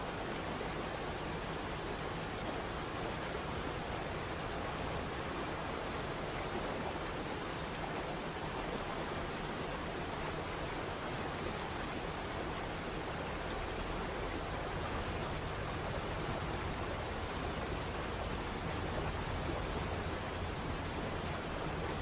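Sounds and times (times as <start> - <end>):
waterfall rushing water: 0.0 - 22.0.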